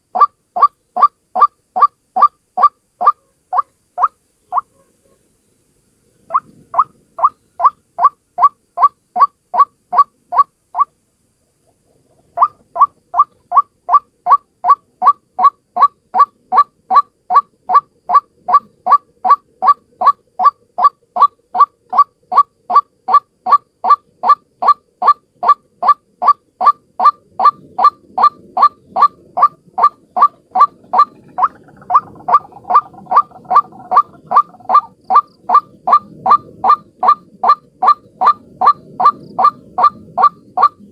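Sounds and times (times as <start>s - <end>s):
faint low background noise: 0.0s - 40.9s.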